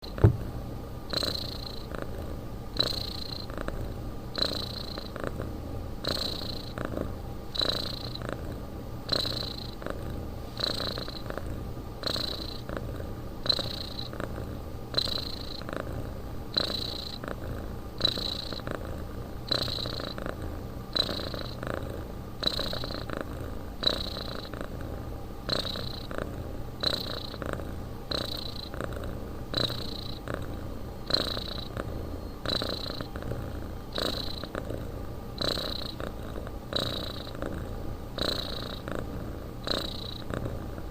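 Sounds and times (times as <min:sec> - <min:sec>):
cat snoring: 0:00.0 - 0:00.5, 0:01.1 - 0:40.9.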